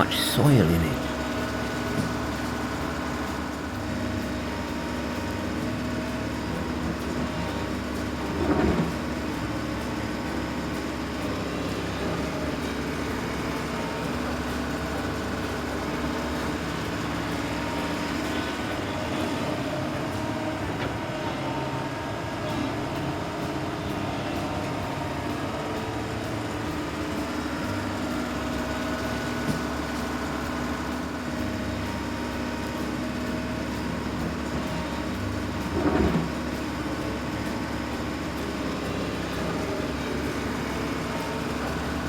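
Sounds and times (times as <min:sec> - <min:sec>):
cartoon excavator engine hum: 0:00.0 - 0:42.0.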